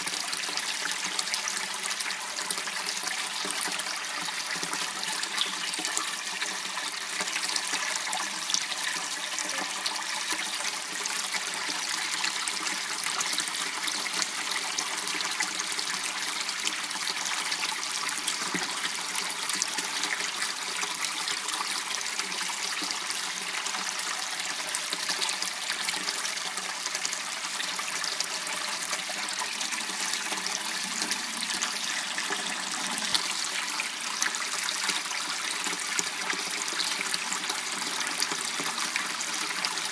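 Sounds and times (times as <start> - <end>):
water trickling in a channel: 0.0 - 39.9.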